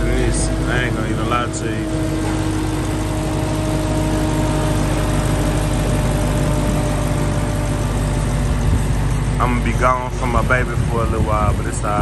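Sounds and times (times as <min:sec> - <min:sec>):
car engine idling with low rumble: 0:00.0 - 0:12.0.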